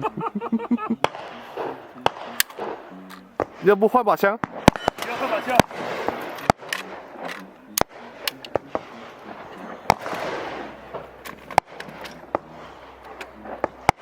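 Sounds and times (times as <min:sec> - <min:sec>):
gunshots: 0:00.0 - 0:14.0.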